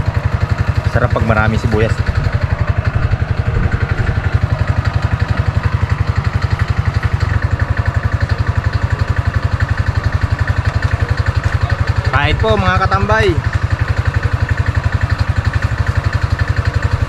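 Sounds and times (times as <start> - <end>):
engine running with pulsing beat: 0.0 - 17.0.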